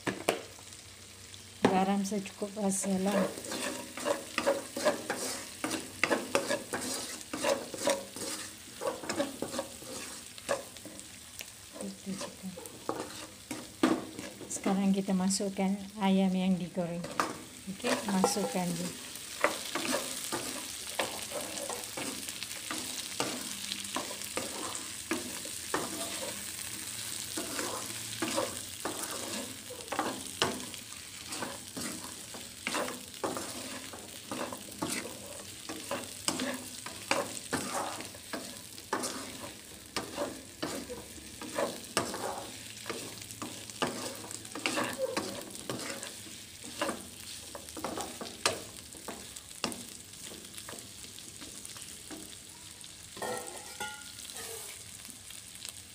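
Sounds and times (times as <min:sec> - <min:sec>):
food sizzling in a wok: 0:00.0 - 0:55.9
spatula scraping and knocking pan: 0:02.8 - 0:15.0, 0:17.0 - 0:52.4, 0:53.2 - 0:54.8.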